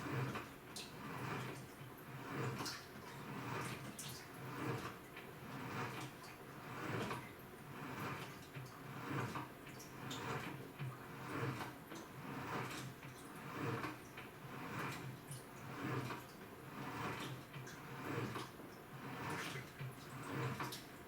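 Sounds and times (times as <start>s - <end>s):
washing machine churning water: 0.0s - 21.0s.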